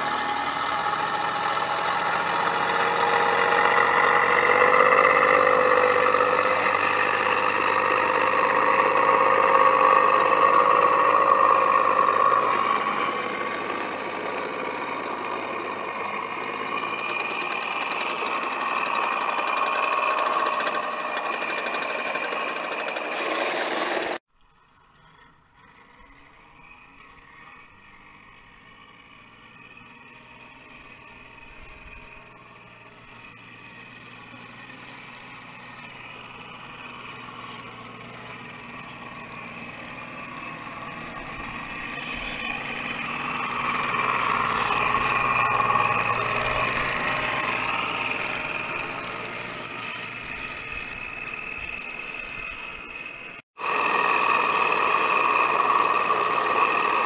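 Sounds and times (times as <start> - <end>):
toy tank motors whining: 0.0 - 57.0.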